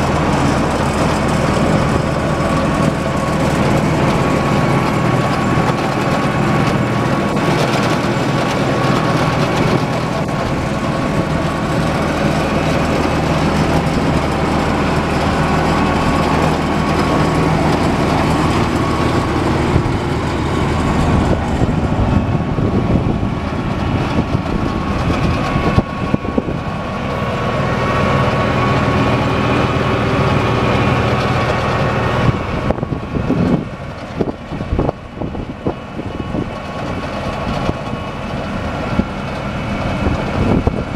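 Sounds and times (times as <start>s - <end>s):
steady whine: 0.0s - 40.9s
tractor diesel engine running: 0.0s - 40.9s.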